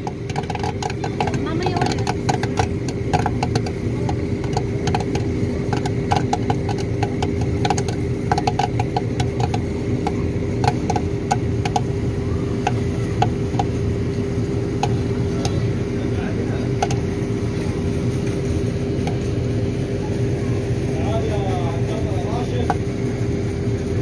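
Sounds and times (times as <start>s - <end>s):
machine low hum: 0.0s - 24.0s
popcorn popping: 0.0s - 24.0s.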